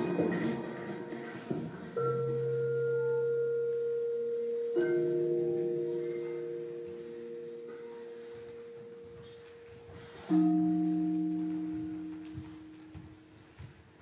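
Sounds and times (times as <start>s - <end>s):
ringing chords: 0.0s - 13.8s.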